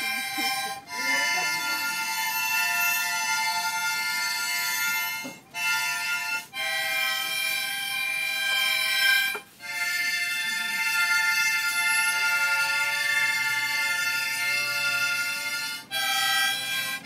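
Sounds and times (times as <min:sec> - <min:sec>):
harmonica chords: 0:00.0 - 0:17.0.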